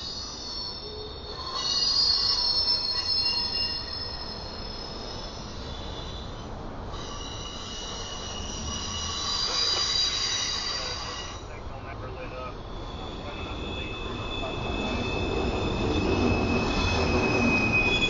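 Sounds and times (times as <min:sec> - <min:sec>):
train low rumble: 0:00.0 - 0:18.0
train wheels squealing on rail: 0:00.0 - 0:18.0.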